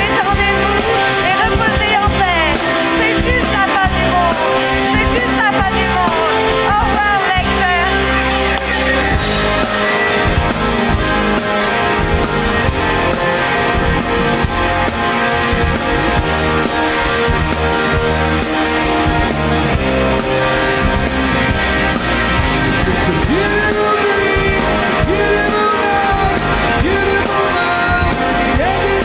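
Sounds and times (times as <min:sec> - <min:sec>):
bass: 0:00.0 - 0:29.0
drum beat: 0:00.0 - 0:29.0
guitars playing: 0:00.0 - 0:29.0.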